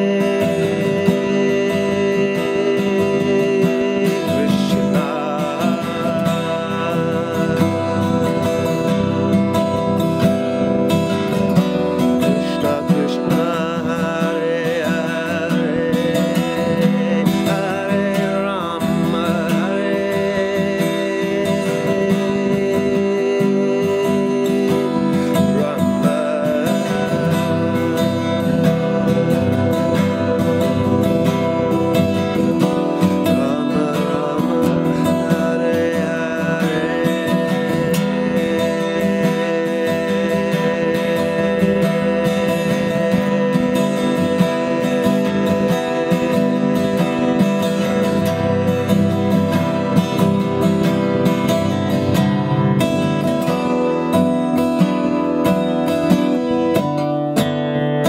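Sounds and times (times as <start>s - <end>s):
person singing a chant: 0.0s - 55.0s
acoustic guitar strumming: 0.0s - 58.0s.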